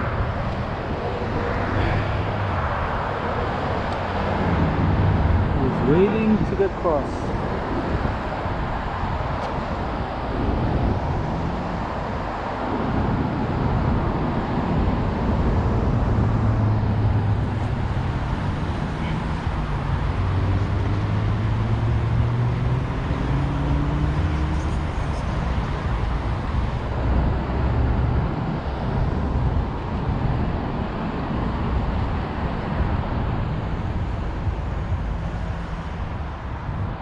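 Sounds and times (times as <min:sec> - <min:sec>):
engine drone rising in pitch: 0:00.0 - 0:37.0
road traffic rumble: 0:00.0 - 0:37.0.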